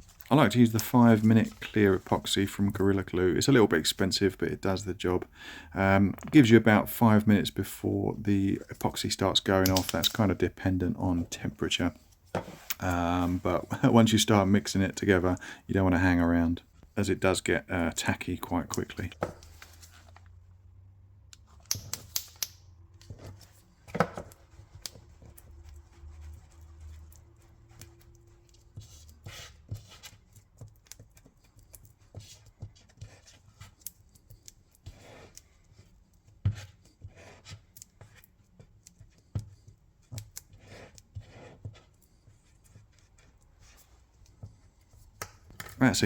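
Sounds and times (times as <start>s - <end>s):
epoxy being stirred and scraped: 0.0s - 46.0s.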